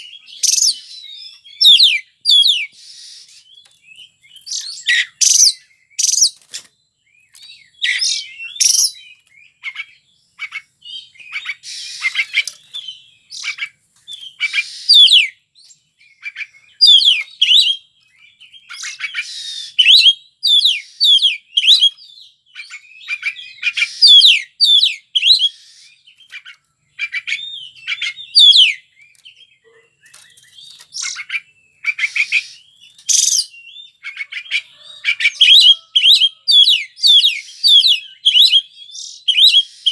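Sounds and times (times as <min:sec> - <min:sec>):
bird singing whistles and rasps: 0:00.0 - 0:39.9.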